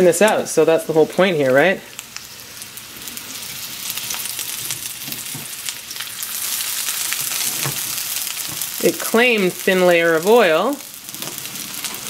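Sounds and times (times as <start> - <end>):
meatballs sizzling in oil: 0.0 - 12.0.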